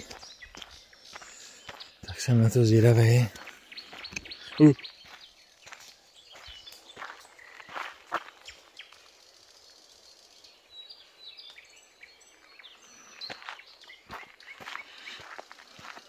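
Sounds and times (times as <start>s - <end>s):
footsteps outdoors: 0.0s - 16.0s
small birds chirping: 0.0s - 16.0s.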